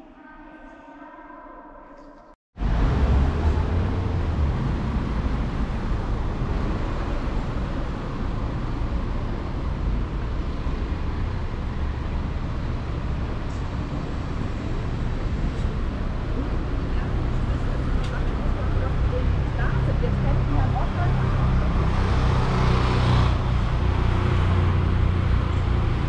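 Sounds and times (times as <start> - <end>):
traffic noise with low rumble: 2.6 - 26.0.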